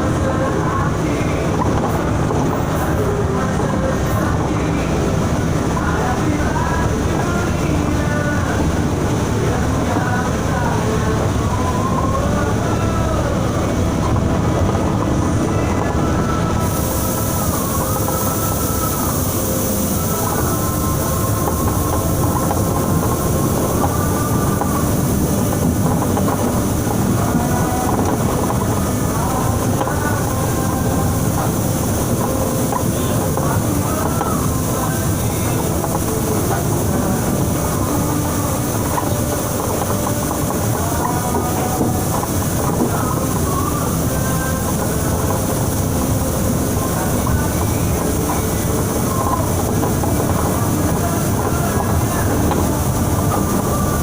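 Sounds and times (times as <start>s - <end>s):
bus engine and tyres rumbling: 0.0s - 54.0s
rain hissing: 0.0s - 54.0s.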